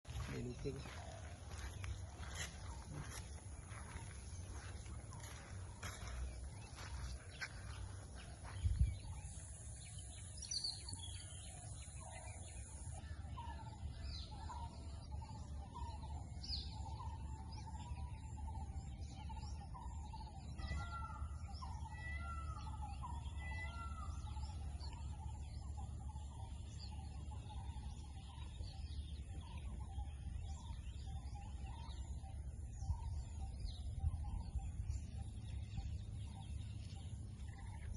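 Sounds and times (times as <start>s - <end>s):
wild birds chirping: 0.0s - 37.9s
steady low rumble: 0.1s - 20.6s, 24.1s - 37.9s.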